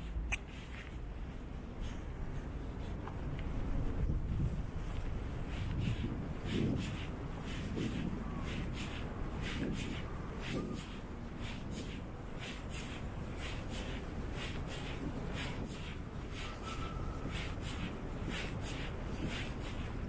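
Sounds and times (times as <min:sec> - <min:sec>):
footsteps on stone paving: 0:00.0 - 0:16.5, 0:17.2 - 0:20.0
street traffic rumble: 0:00.0 - 0:20.0.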